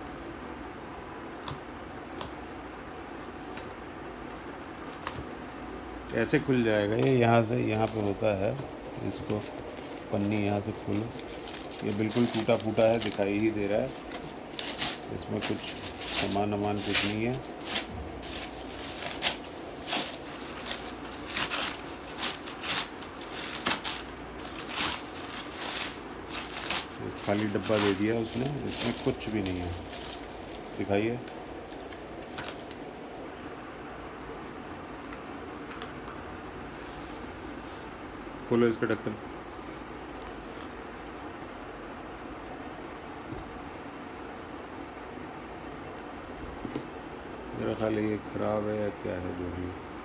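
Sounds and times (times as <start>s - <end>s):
plastic wrap rustling and crackling: 0.0s - 40.8s.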